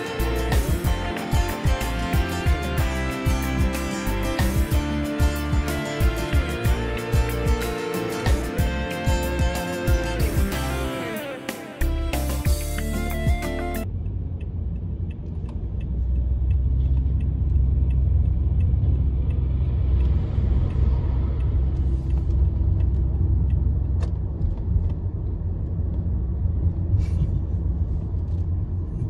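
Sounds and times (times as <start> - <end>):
vehicle rumble: 0.0 - 11.1, 11.8 - 29.0.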